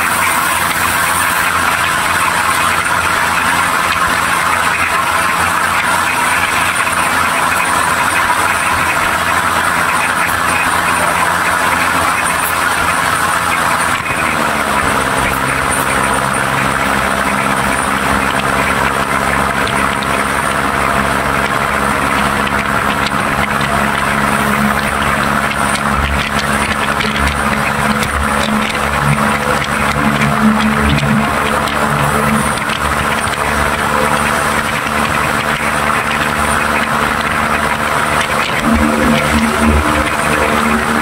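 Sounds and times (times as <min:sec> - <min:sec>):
locomotive engine hum: 0:00.0 - 0:41.0
train wheels rolling: 0:00.0 - 0:41.0.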